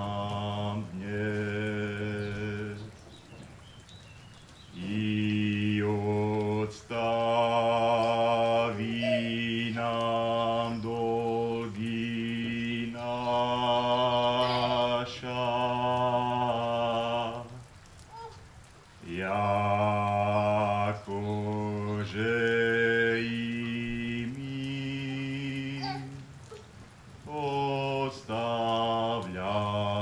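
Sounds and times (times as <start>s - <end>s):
man singing slow chant: 0.0s - 3.0s, 4.7s - 17.8s, 19.0s - 26.4s, 27.2s - 30.0s.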